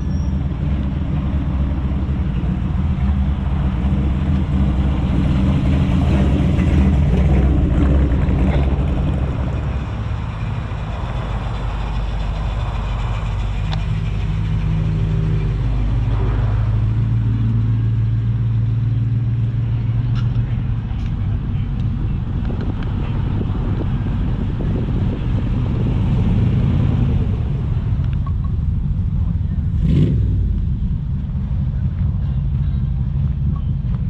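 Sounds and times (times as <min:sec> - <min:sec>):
car engine running at low revs: 0:00.0 - 0:34.0.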